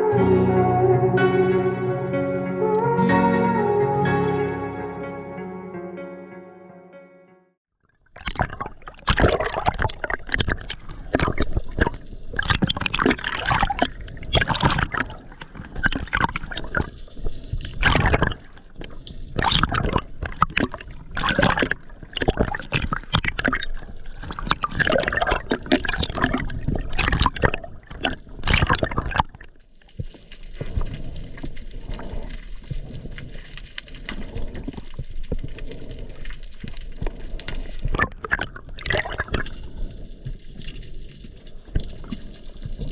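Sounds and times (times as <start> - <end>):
water sloshing and splashing: 8.0 - 42.9.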